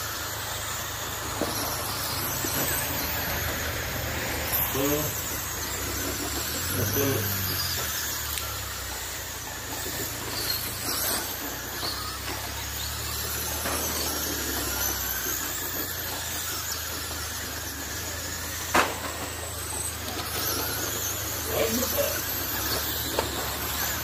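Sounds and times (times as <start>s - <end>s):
rc truck motors whining: 0.0s - 24.0s
tyres hissing on dirt: 0.0s - 24.0s.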